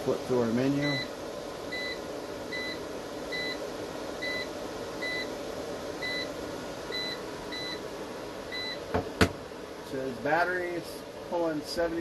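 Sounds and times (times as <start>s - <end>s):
inverter humming: 0.0s - 12.0s.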